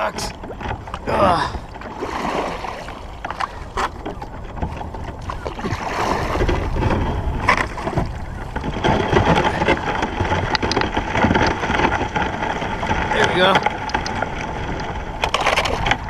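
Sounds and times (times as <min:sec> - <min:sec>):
water and ice sloshing: 0:00.0 - 0:16.0
wind rumble on microphone: 0:00.0 - 0:16.0.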